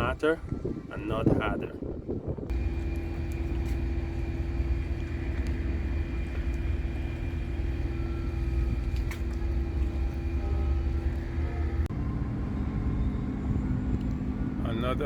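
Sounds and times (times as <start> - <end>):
engine droning: 2.5 - 15.0.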